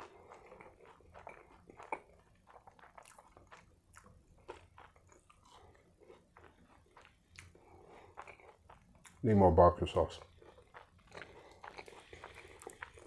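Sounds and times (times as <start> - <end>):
chewing with mouth clicks: 0.0 - 13.0.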